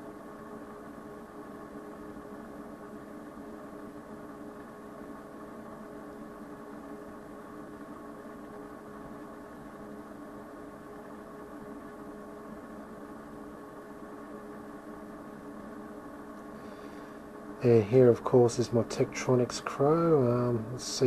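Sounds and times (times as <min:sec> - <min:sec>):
electrical hum with fixed tones: 0:00.0 - 0:21.0.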